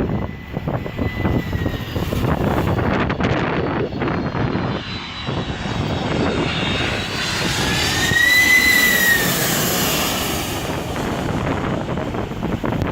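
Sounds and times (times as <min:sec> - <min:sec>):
jet airliner passing overhead: 0:00.0 - 0:12.9.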